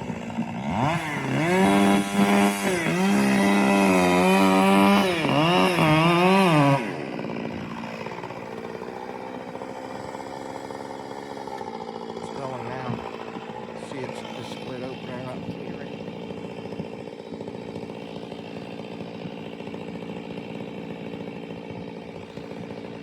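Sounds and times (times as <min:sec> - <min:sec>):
chainsaw revving: 0:00.0 - 0:23.0.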